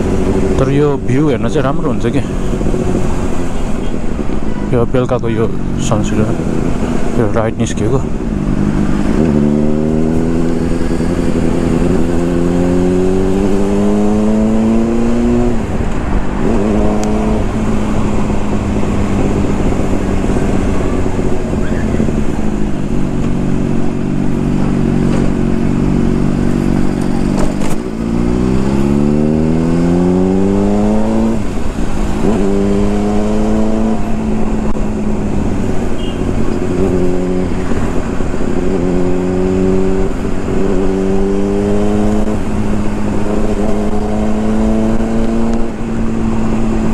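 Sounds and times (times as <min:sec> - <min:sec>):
motorcycle engine accelerating: 0:00.0 - 0:04.7, 0:05.3 - 0:46.9.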